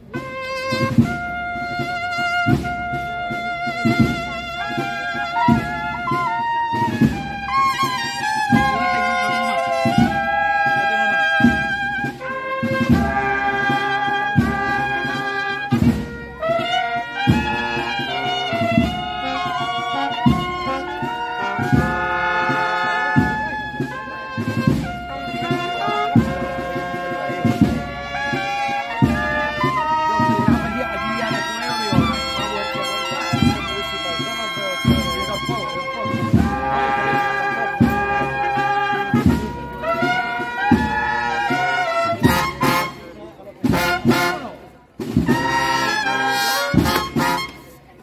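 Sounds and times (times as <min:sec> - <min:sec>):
brass band playing: 0:00.0 - 0:48.0
trumpets melody: 0:00.0 - 0:48.0.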